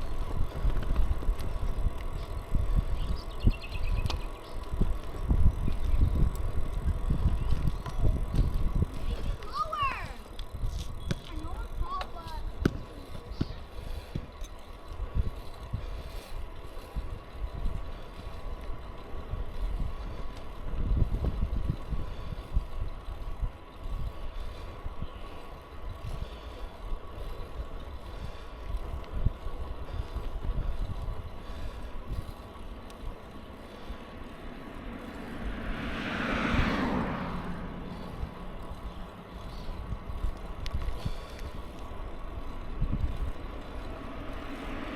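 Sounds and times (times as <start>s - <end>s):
bicycle riding noise: 0.0s - 44.9s
motor vehicle passing: 0.0s - 44.9s
wind rumble: 0.0s - 44.9s.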